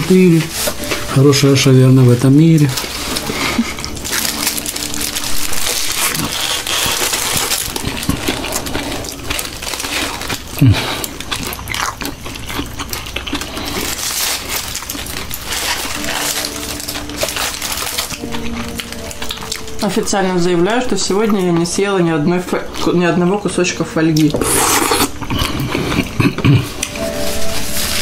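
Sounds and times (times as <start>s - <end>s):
aluminium foil crinkling: 0.0s - 28.0s
close chewing: 0.1s - 21.8s, 24.2s - 28.0s.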